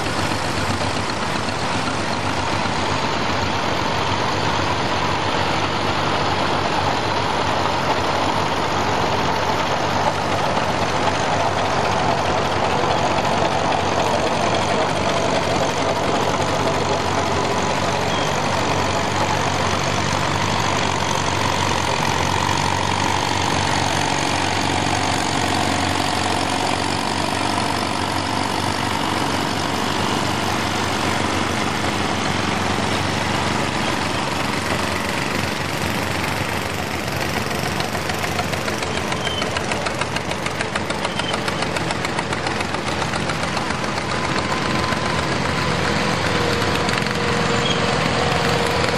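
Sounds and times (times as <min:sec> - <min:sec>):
tractor engines running: 0:00.0 - 0:48.9.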